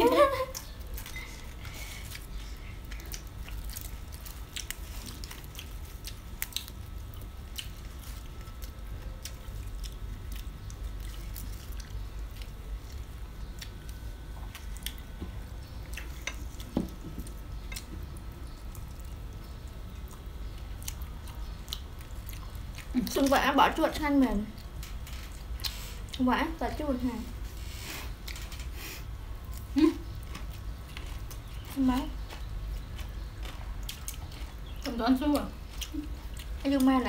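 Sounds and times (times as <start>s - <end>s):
soft chewing: 0.0s - 23.8s, 24.4s - 26.3s, 27.3s - 37.0s
low steady hum: 0.0s - 37.0s.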